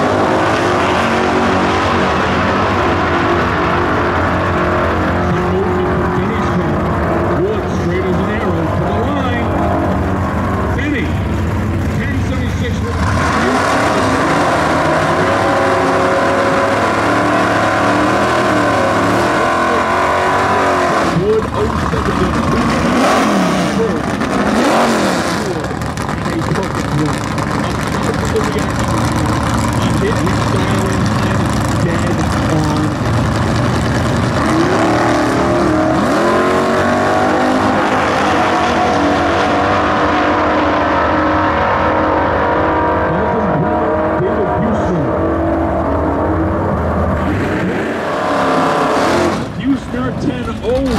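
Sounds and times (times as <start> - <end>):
car engine revving high: 0.0 - 50.9.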